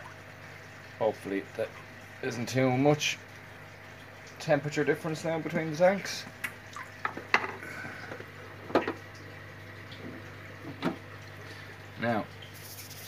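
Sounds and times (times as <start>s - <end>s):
steady low hum: 0.0s - 13.0s
water drips and splashes: 0.0s - 13.0s.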